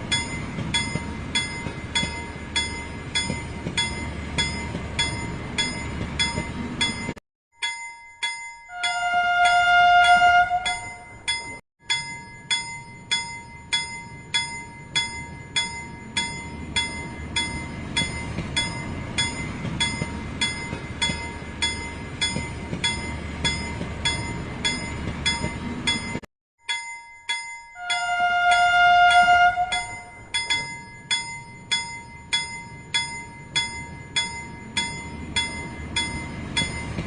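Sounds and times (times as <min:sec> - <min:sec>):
train bell ringing: 0:00.0 - 0:37.0.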